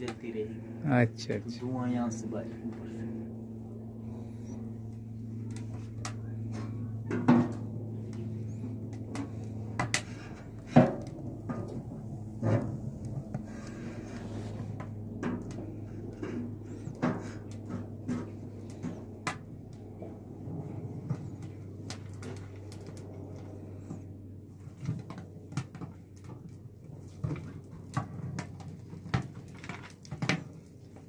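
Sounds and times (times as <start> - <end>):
wood fire crackling: 0.0 - 6.9, 7.5 - 31.0
steady low hum: 0.0 - 31.0.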